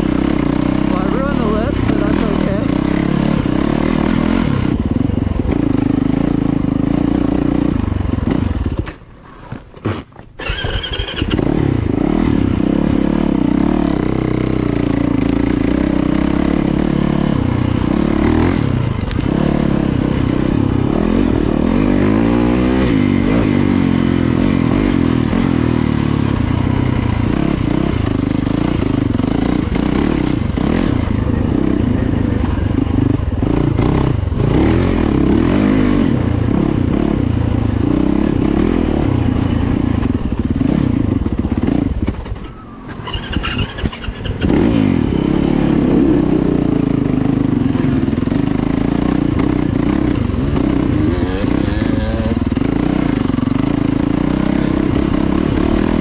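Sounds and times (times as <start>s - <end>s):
dirt bike engine revving: 0.0s - 8.8s, 10.4s - 56.0s.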